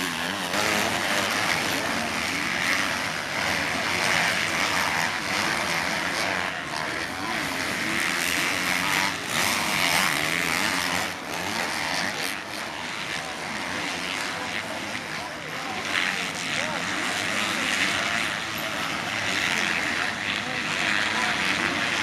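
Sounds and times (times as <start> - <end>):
motocross bikes racing: 0.0 - 22.0.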